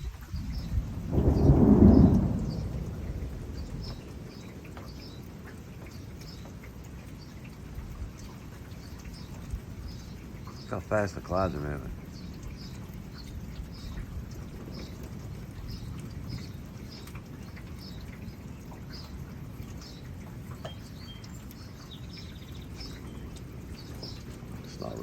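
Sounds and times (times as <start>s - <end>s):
rain: 0.0s - 25.0s
wind: 0.0s - 25.0s.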